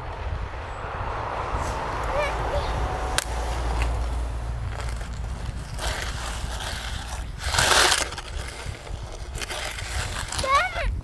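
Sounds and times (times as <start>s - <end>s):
low rumble: 0.0s - 10.0s
plastic shovel scraping sand: 1.6s - 11.0s.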